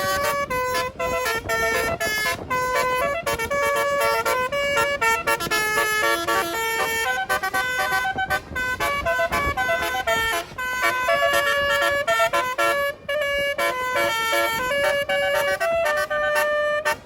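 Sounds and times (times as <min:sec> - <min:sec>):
musical air horn melody: 0:00.0 - 0:17.0.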